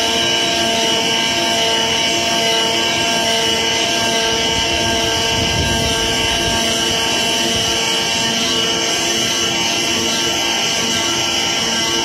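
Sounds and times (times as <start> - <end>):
cutter mechanical whine: 0.0 - 12.0
motors humming: 0.0 - 12.0.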